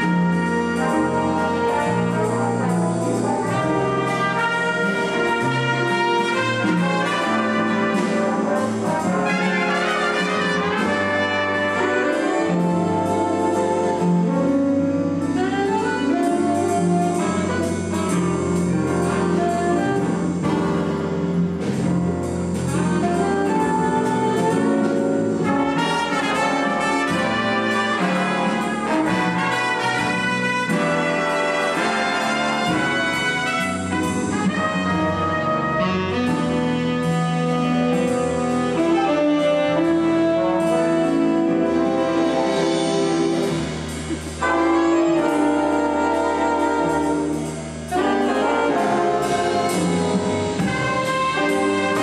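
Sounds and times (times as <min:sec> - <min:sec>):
jazz big band playing: 0:00.0 - 0:52.0
steady cymbal beat: 0:00.0 - 0:52.0.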